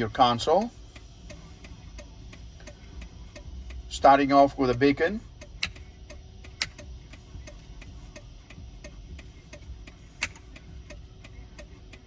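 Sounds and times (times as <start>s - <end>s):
flasher relay ticking: 0.0s - 12.0s.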